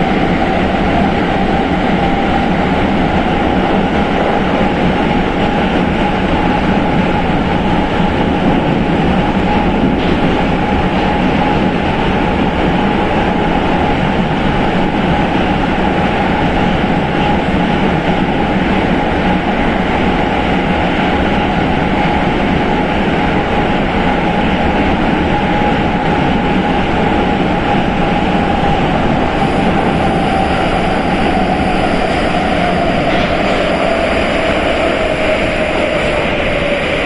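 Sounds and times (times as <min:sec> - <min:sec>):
train wheels rumbling in tunnel: 0:00.0 - 0:37.0
train whine: 0:00.0 - 0:37.0.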